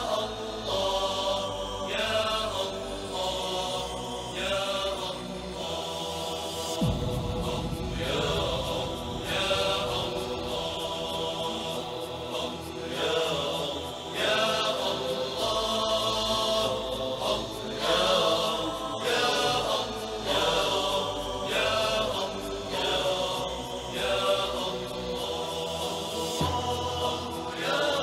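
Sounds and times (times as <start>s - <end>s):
person chanting melodically: 0.0s - 28.0s.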